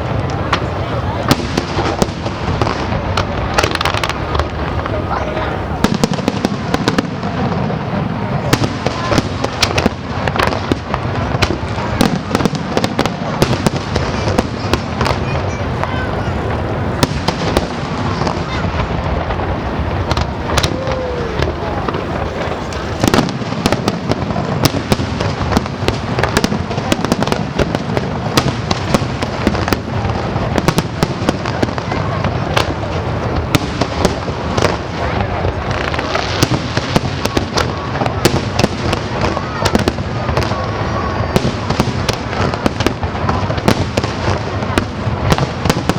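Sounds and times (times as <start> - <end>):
fireworks bangs and crackles: 0.0 - 45.9.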